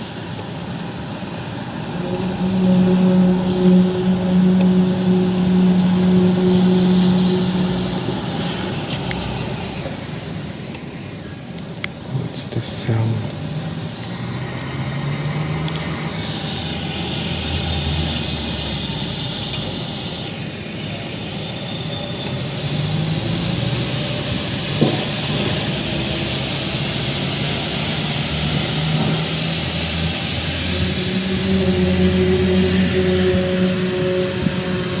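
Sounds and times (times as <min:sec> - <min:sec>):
low hum tones: 0:00.0 - 0:21.4, 0:22.3 - 0:35.0
droning rumble with hiss: 0:00.0 - 0:35.0.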